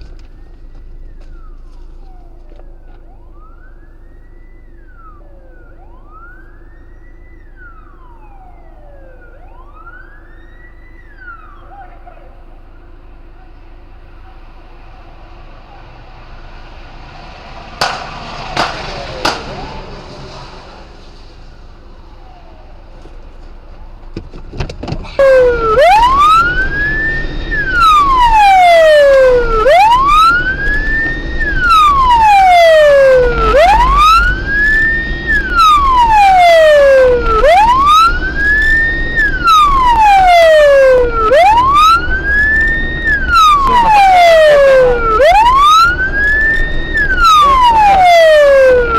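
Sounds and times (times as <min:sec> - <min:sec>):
low vehicle rumble: 0:00.0 - 0:48.9
police siren wailing: 0:00.0 - 0:48.9.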